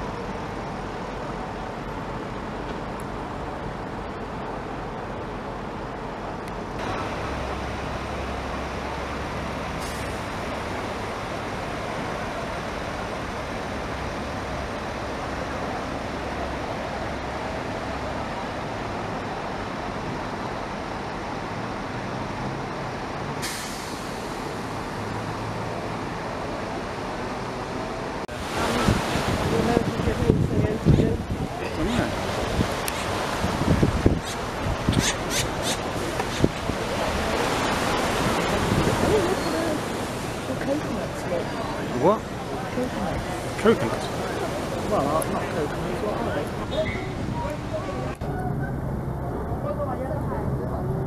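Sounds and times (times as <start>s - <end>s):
buses idling: 0.0s - 51.0s
road traffic: 0.0s - 51.0s.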